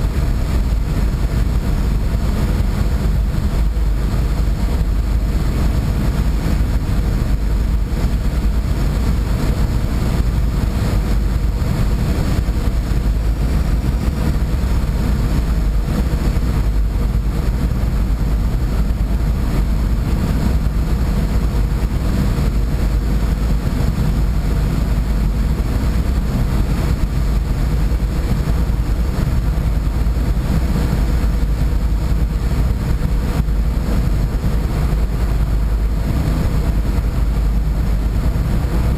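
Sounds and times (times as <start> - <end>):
boat engine droning: 0.0 - 38.9
rushing water noise: 0.0 - 38.9.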